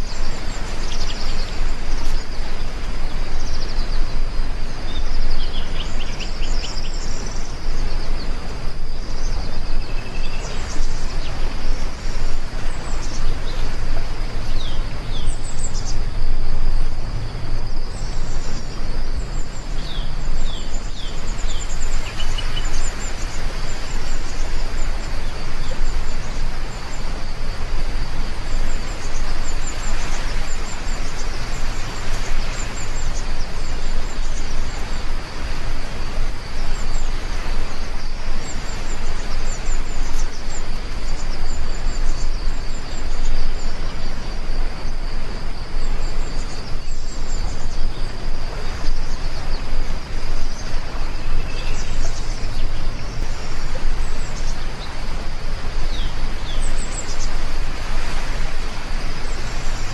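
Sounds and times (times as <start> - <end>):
birds chirping: 0.0 - 59.9
steady rain: 0.0 - 59.9.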